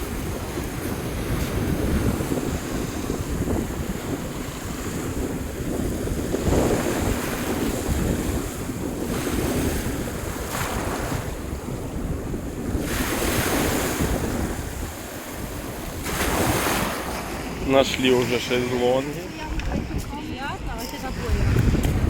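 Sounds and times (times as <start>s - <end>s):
sea waves washing in: 0.0s - 22.0s
wind buffeting microphone: 0.0s - 22.0s.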